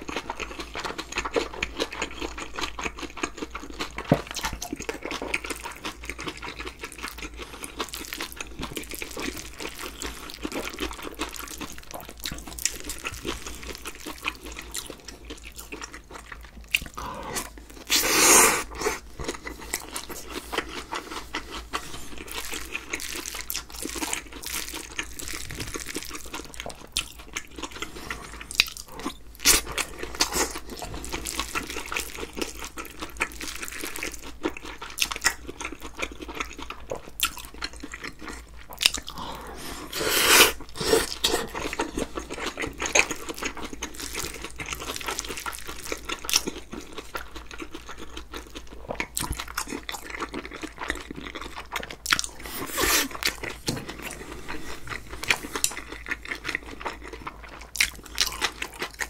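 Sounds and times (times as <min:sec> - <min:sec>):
wet crunchy chewing: 0:00.0 - 0:59.0.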